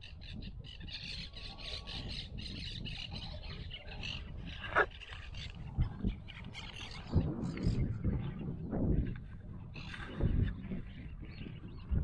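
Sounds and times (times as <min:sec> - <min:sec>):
low wind rumble: 0:00.0 - 0:12.0.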